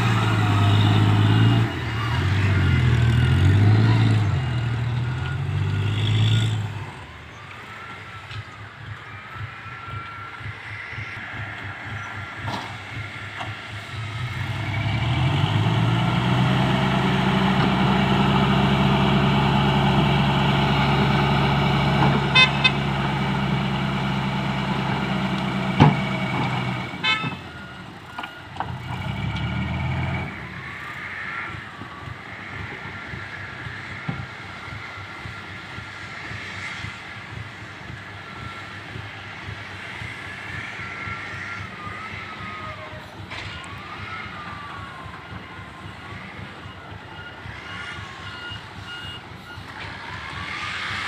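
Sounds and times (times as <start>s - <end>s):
dump truck diesel engine: 0.0s - 51.0s.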